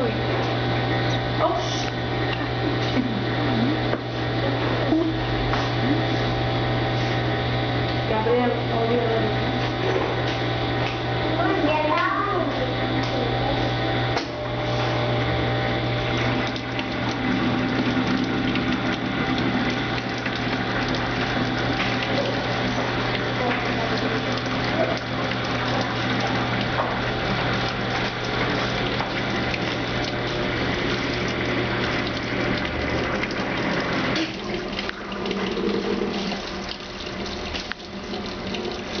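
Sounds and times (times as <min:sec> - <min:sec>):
drain pump humming: 0:00.0 - 0:39.0.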